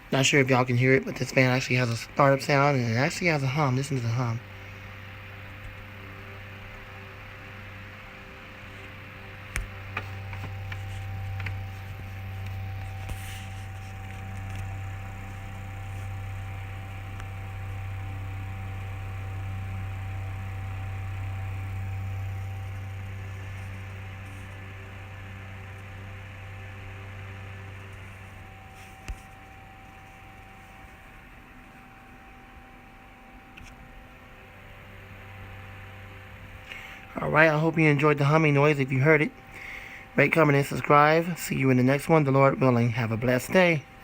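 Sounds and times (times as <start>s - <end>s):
fan running: 0.0s - 44.0s.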